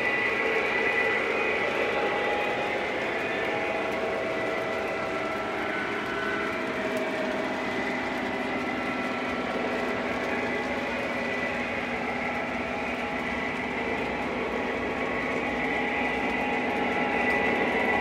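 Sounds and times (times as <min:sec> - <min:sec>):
held whining tones: 0:00.0 - 0:18.0
model trains rolling on track: 0:00.0 - 0:18.0.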